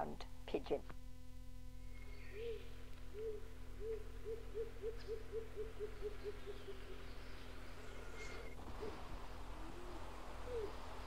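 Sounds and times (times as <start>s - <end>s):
low tape hum: 0.0s - 11.0s
pigeon calling low hoo notes: 1.9s - 11.0s.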